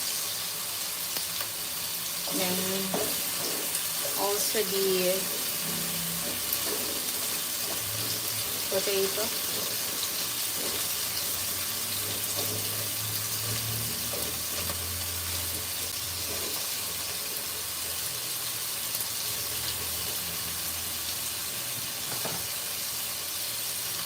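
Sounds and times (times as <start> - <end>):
vegetables frying in hot oil: 0.0 - 24.0.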